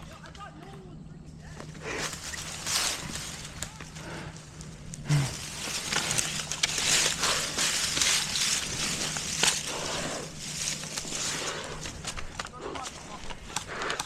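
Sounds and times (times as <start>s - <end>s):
footsteps through dry undergrowth: 1.4s - 14.0s.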